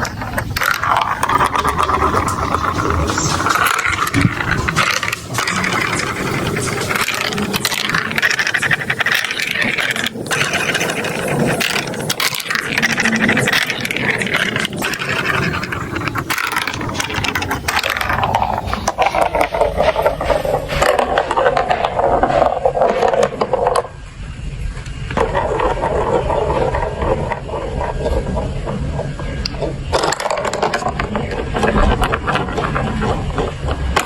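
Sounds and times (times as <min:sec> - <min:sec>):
plastic toy pieces rattling and clicking: 0:00.0 - 0:23.9, 0:25.1 - 0:34.0.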